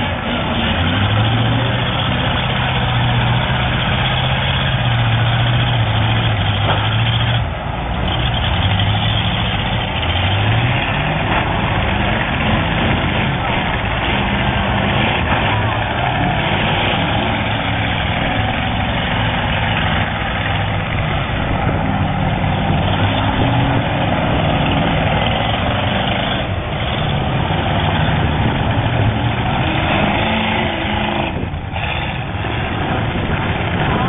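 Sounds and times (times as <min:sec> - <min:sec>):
car engines running loudly: 0:00.0 - 0:34.0.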